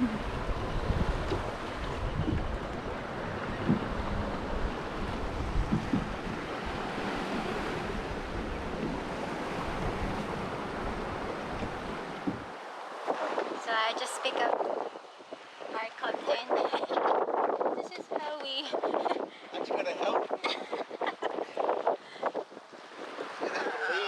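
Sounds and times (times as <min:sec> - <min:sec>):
waves washing around a boat: 0:00.0 - 0:24.0
wind on microphone: 0:00.0 - 0:24.0.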